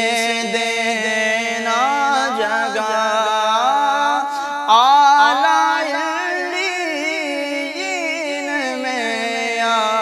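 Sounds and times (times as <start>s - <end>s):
man singing devotional song: 0.0s - 10.0s.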